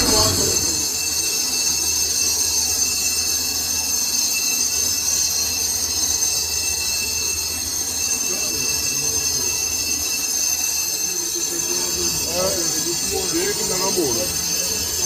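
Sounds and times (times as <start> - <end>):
cutting tool screeching on metal: 0.0 - 15.0
lathe running hum: 0.0 - 15.0.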